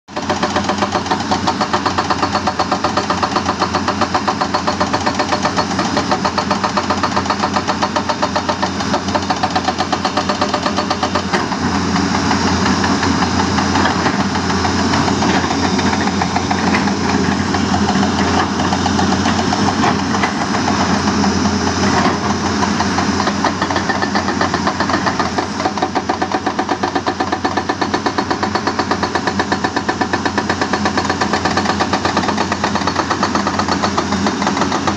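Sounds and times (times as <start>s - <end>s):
diesel engine running: 0.1s - 34.9s
hydraulic breaker hammering stone: 0.1s - 34.9s.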